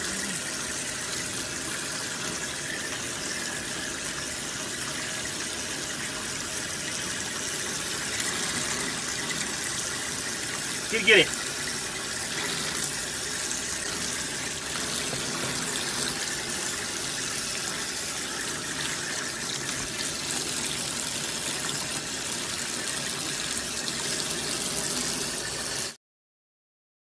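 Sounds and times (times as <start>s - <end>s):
tap water running: 0.0s - 26.0s.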